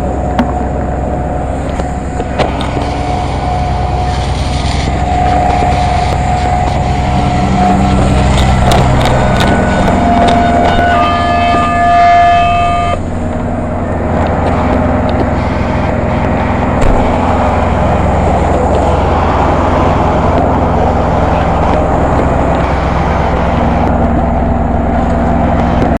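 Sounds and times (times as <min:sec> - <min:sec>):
fire engine rumbling: 0:00.0 - 0:26.0
horn tone: 0:02.5 - 0:23.8.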